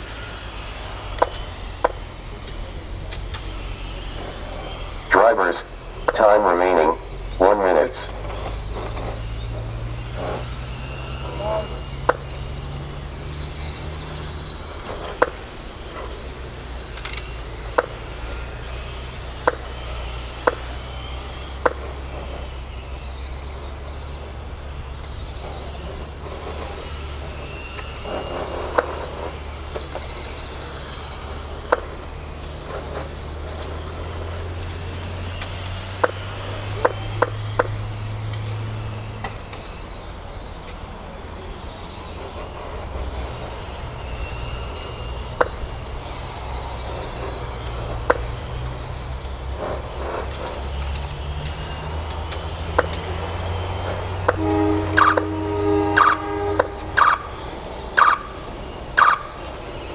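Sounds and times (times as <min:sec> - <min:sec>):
rc car motor whine: 0:00.0 - 0:59.9.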